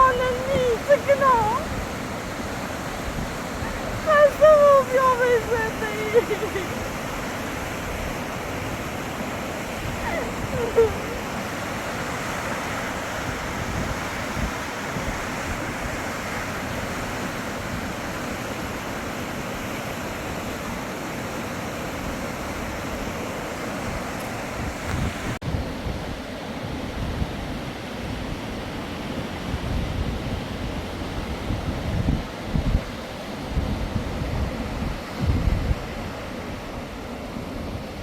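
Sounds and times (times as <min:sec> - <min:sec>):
rushing river water: 0:00.0 - 0:38.0
wind buffeting microphone: 0:00.0 - 0:38.0.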